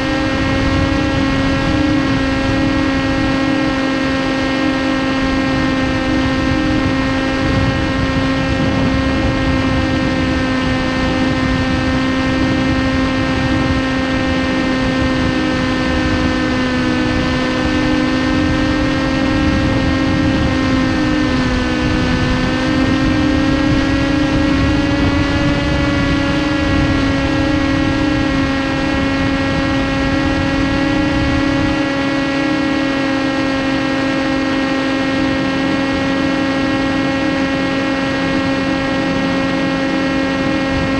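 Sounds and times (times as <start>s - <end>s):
electric motor and propeller whine: 0.0s - 40.9s
wind rush: 0.0s - 40.9s.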